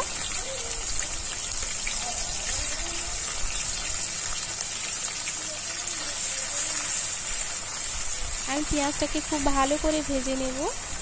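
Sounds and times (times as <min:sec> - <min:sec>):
onion paste sizzling in oil: 0:00.0 - 0:11.0.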